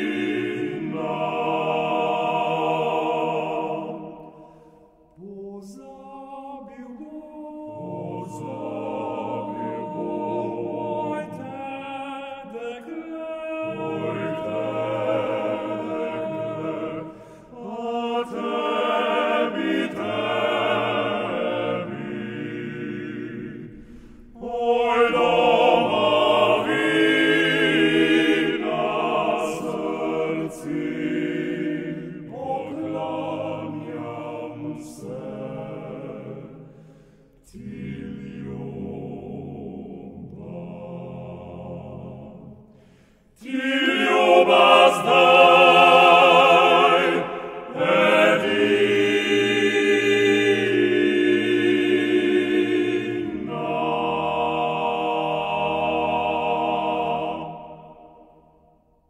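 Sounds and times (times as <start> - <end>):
male choir singing a cappella: 0.0 - 58.9.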